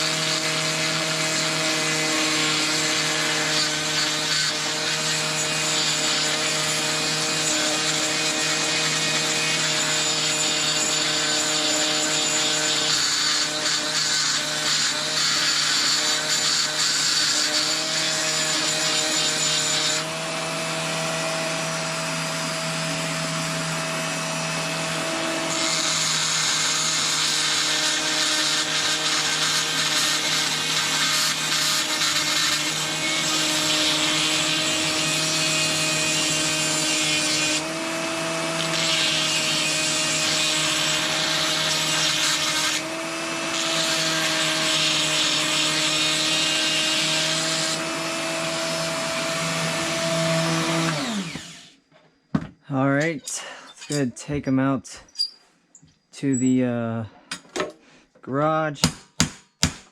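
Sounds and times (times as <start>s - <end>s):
electric grinder grinding metal: 0.0s - 51.8s.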